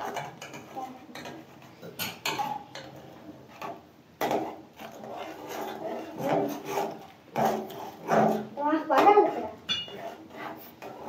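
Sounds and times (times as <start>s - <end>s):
spatula scraping metal pot: 0.0s - 11.0s.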